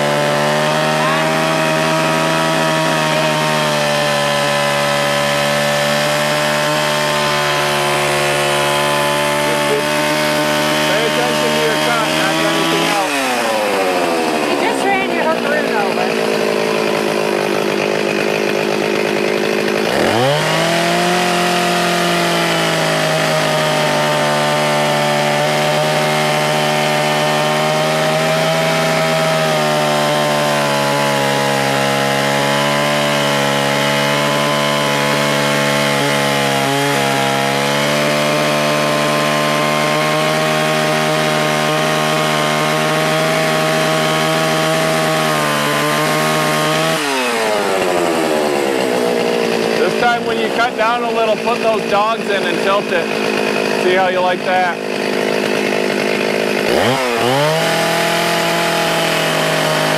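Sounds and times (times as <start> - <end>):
chainsaw sawing through log: 0.0 - 59.9.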